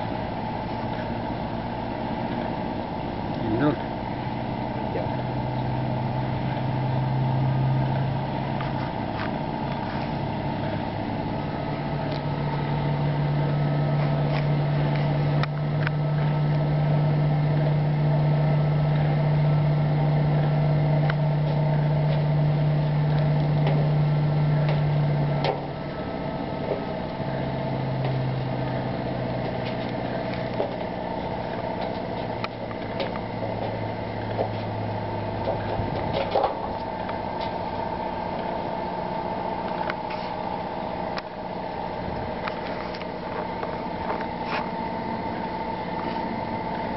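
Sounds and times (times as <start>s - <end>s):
motor humming: 0.0s - 46.9s.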